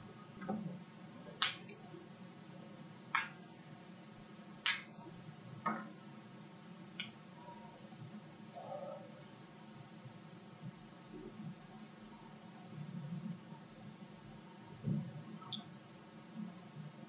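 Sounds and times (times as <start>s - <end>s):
faint room hum: 0.0s - 17.0s.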